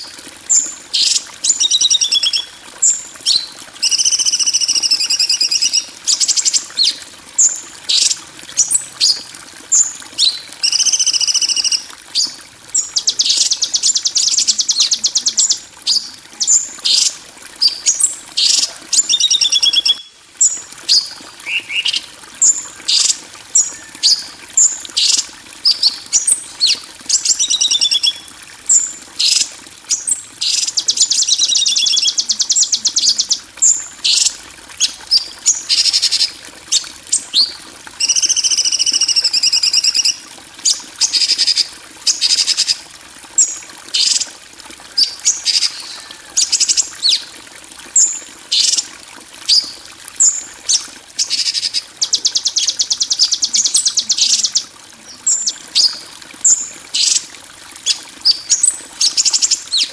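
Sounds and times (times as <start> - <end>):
faint flowing water: 0.0 - 59.9.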